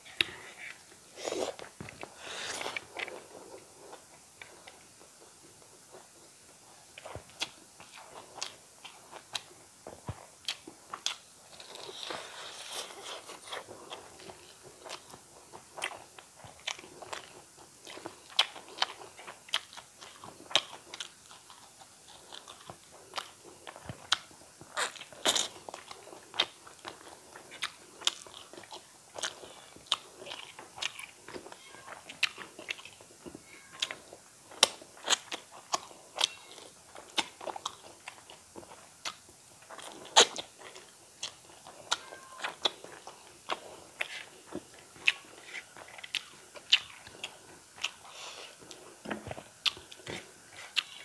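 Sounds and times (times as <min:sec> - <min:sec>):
person chewing food: 0:00.1 - 0:06.2, 0:06.9 - 0:51.0.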